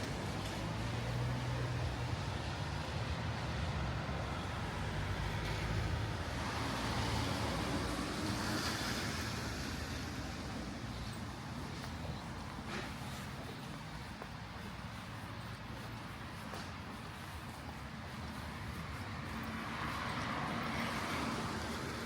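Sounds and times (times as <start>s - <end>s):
tyre hiss on wet road: 0.1s - 14.0s, 16.2s - 22.0s.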